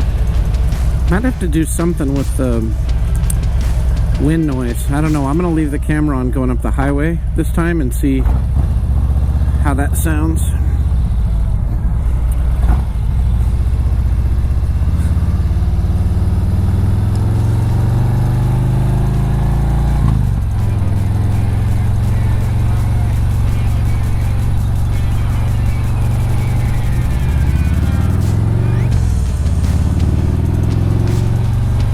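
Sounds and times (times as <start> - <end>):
music playing: 0.0 - 8.4, 9.4 - 31.9
motorcycle engine running: 0.0 - 31.9.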